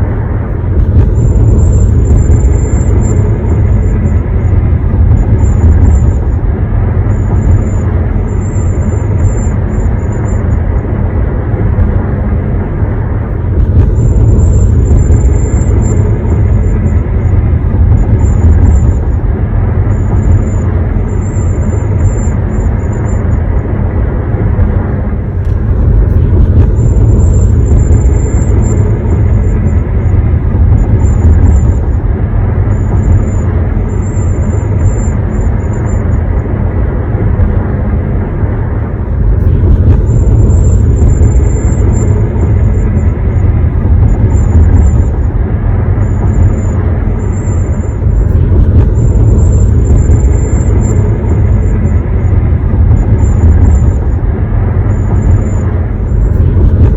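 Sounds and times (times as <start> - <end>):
road rumble inside car: 0.0 - 56.9.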